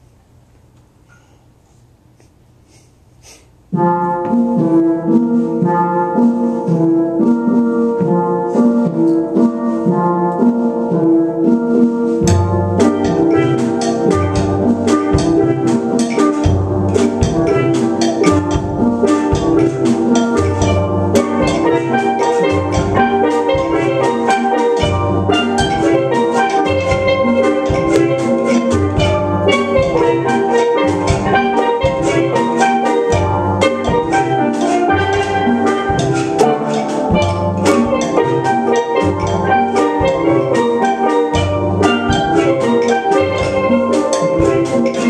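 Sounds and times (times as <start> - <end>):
steel drum band playing: 3.6 - 45.0.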